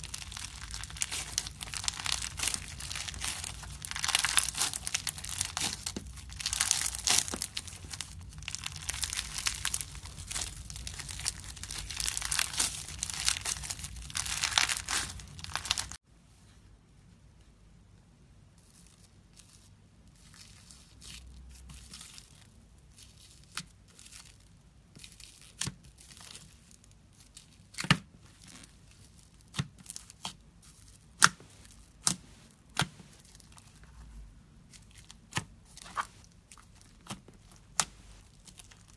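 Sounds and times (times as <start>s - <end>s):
slime crackling crinkle: 0.0s - 16.0s, 18.6s - 38.9s.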